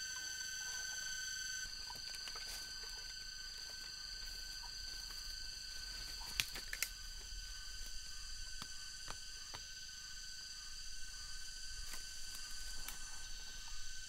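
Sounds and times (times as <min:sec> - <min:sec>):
jungle insects droning: 0:00.0 - 0:14.0.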